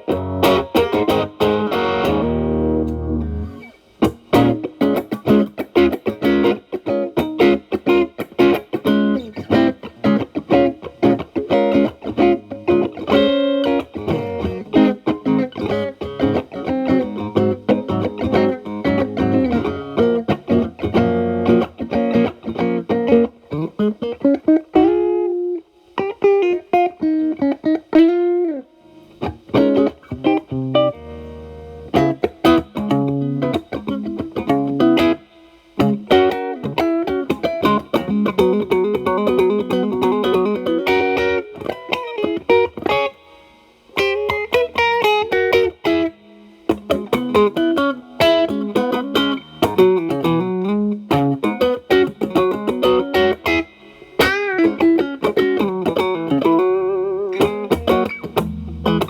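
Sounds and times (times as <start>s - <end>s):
electric guitar held chord: 0.0s - 25.6s, 29.0s - 59.0s
electric guitar blues licks: 0.0s - 59.0s.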